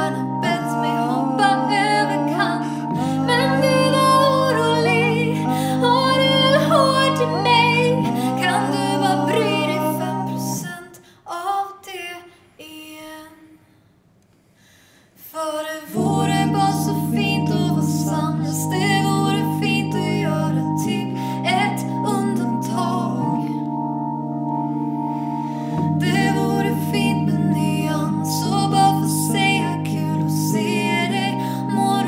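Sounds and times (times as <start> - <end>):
piano accompaniment: 0.0 - 10.6, 15.9 - 32.0
woman singing a ballad: 0.0 - 13.6, 15.2 - 23.8, 25.6 - 32.0.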